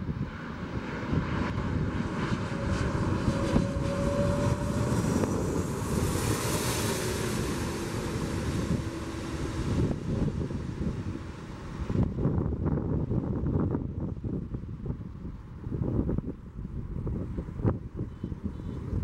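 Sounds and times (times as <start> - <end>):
jet rumble and engine whine: 0.0 - 19.0
wind buffeting microphone: 0.0 - 19.0.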